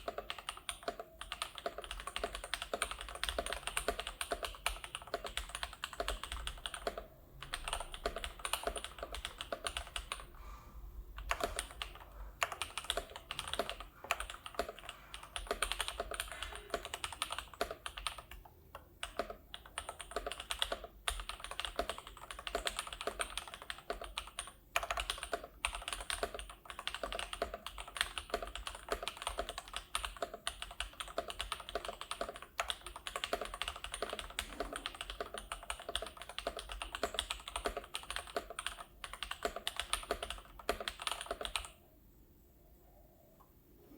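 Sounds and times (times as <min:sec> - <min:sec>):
mechanical keyboard typing: 0:00.0 - 0:10.3, 0:11.2 - 0:41.8.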